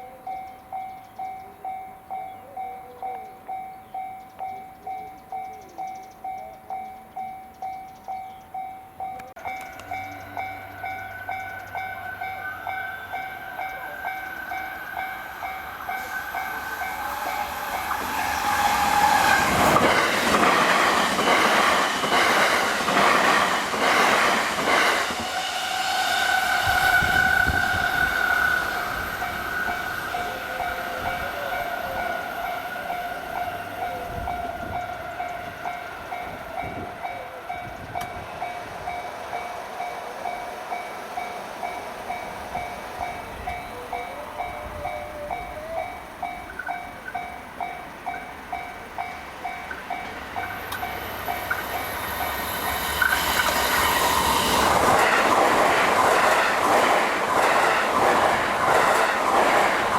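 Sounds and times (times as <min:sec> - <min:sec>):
level crossing warning bell: 0:00.0 - 0:18.6, 0:26.6 - 0:56.4
electric train passing: 0:00.0 - 0:59.9.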